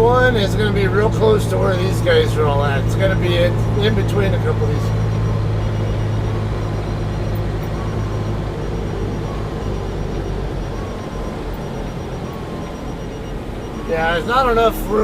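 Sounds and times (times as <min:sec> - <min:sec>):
truck diesel engine humming: 0:00.0 - 0:15.0.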